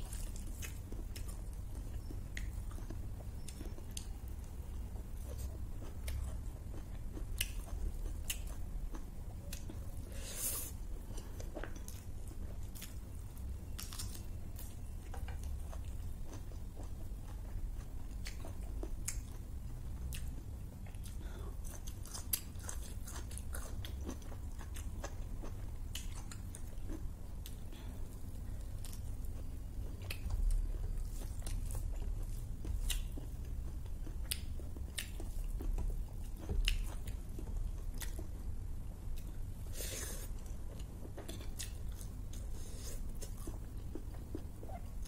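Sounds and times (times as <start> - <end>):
chewing food: 0.0 - 38.5, 39.1 - 45.0.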